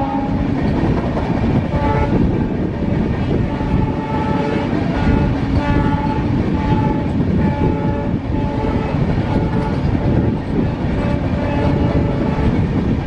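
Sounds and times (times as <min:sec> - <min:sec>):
multi-tone train horn blasts: 0:00.0 - 0:00.7, 0:01.6 - 0:13.0
train wheels rumbling on track: 0:00.0 - 0:13.0.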